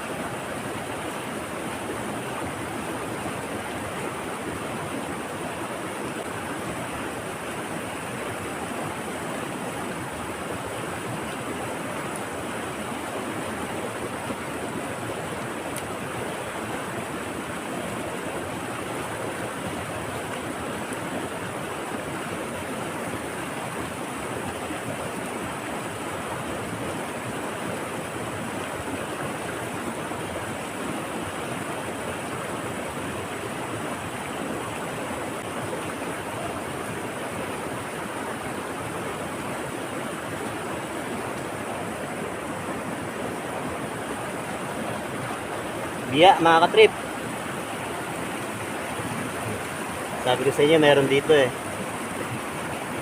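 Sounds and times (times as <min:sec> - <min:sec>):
stream water rushing over rocks: 0:00.0 - 0:53.0.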